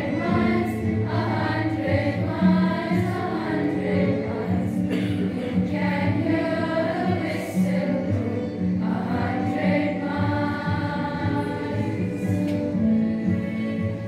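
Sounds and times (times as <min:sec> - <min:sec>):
girls choir singing: 0:00.0 - 0:14.0.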